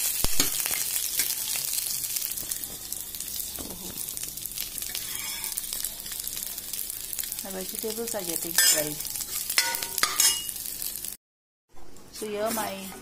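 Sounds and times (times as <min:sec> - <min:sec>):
leaves sizzling in hot oil: 0:00.0 - 0:11.2.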